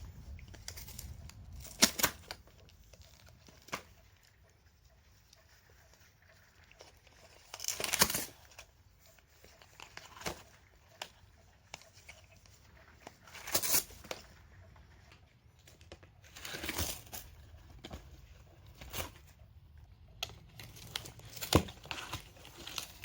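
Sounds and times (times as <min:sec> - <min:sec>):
cat scratching and rustling: 0:00.0 - 0:23.0.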